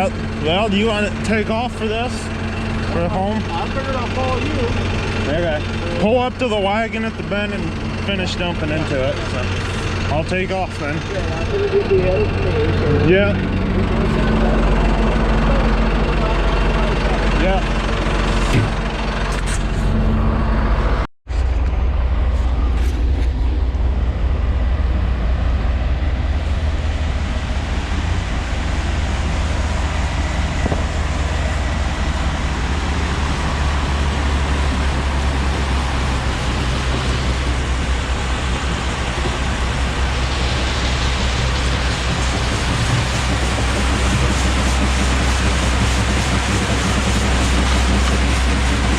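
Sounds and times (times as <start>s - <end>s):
farm vehicle engine rumble: 0.0s - 48.9s
road and wind noise: 0.0s - 48.9s.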